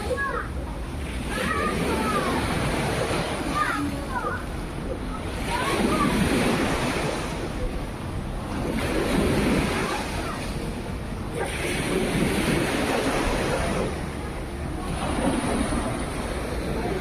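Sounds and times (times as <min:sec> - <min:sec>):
small waves washing in: 0:00.0 - 0:17.0.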